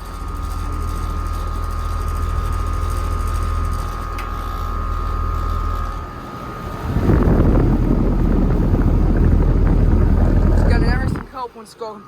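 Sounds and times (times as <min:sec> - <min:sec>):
heat pump low hum: 0:00.0 - 0:12.0
thin steady whine: 0:00.0 - 0:12.0.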